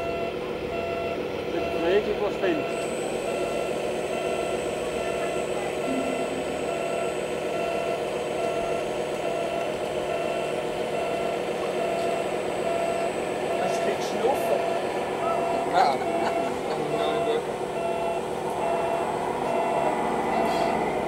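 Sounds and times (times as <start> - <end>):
model truck motor humming: 0.0 - 21.0.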